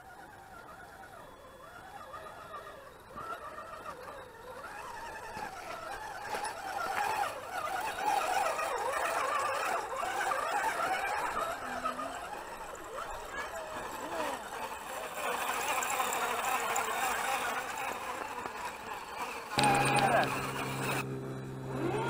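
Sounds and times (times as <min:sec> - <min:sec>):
rc truck motors whining: 0:00.0 - 0:22.0.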